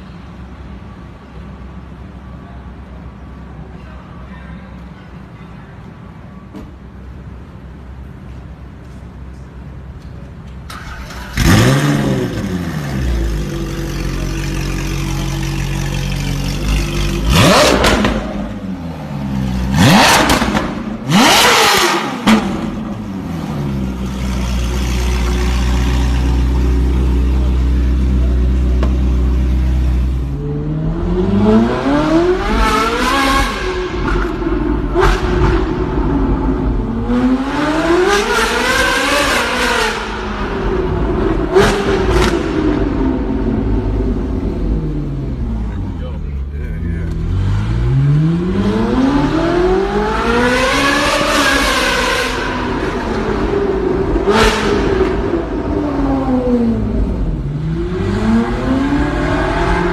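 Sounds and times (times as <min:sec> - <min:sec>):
car engine revving: 0:10.7 - 0:59.9.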